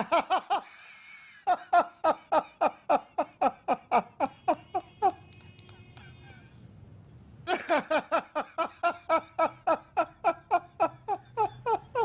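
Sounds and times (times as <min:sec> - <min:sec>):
person laughing: 0:00.0 - 0:06.7, 0:07.5 - 0:12.0.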